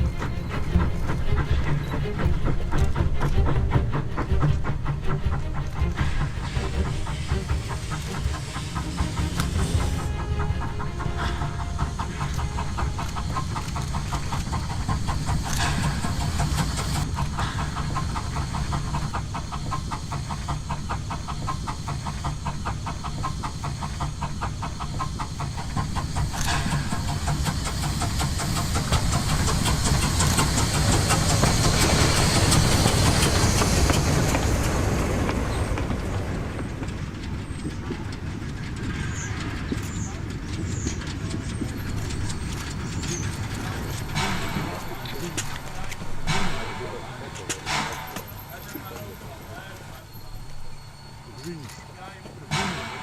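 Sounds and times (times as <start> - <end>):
steam locomotive passing: 0.0 - 53.0.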